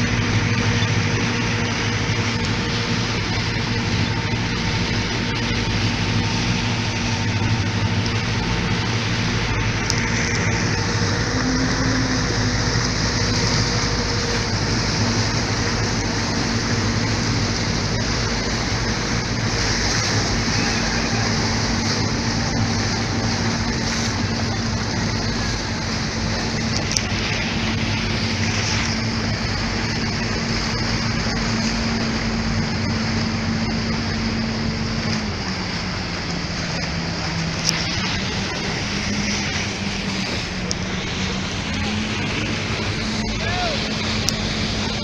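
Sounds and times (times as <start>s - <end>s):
motorboat engine running: 0.0s - 45.0s
rushing noise: 0.0s - 45.0s.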